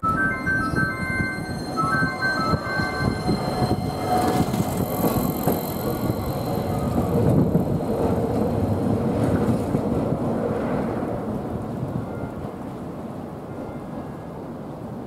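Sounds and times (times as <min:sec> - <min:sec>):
tram wheels clattering on rail: 0:00.5 - 0:13.3.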